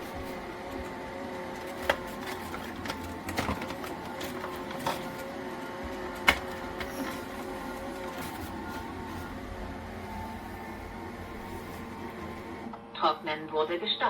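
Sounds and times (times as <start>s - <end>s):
motor and fan hum: 0.0s - 14.0s.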